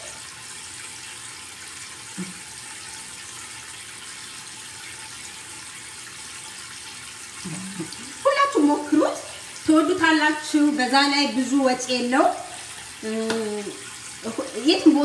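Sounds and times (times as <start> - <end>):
water running from tap: 0.0 - 15.0.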